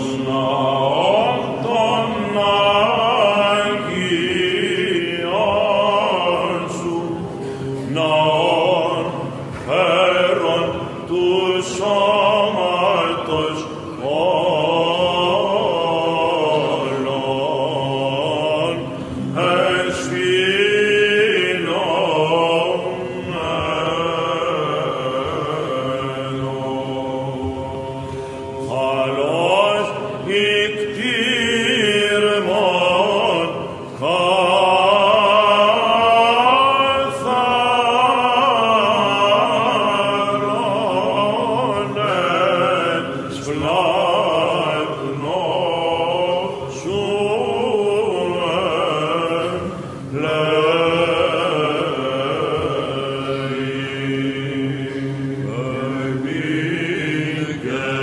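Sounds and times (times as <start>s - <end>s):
held vocal drone: 0.0s - 58.0s
men chanting melody: 0.0s - 58.0s.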